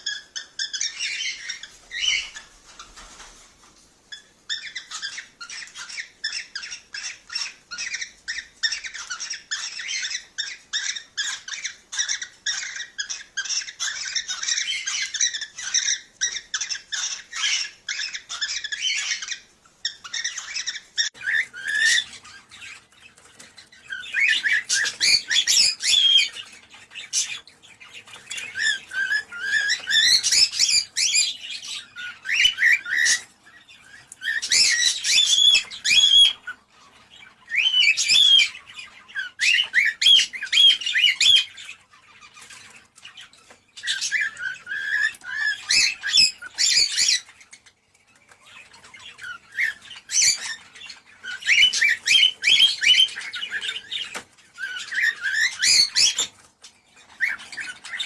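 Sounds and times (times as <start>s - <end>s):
cockatiels chattering and whistling: 0.0s - 58.0s.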